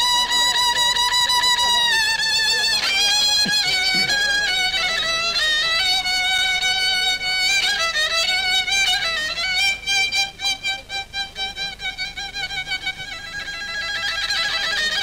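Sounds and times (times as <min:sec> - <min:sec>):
bowed fiddle melody: 0:00.0 - 0:15.0.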